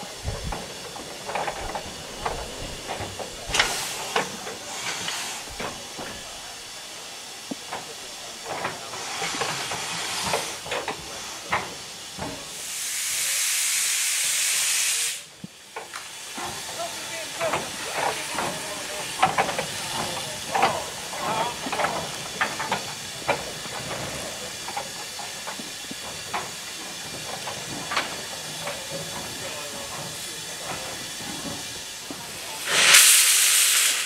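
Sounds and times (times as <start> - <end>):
loud rush of steam: 0.0 - 34.0
steam locomotive hissing: 0.0 - 34.0.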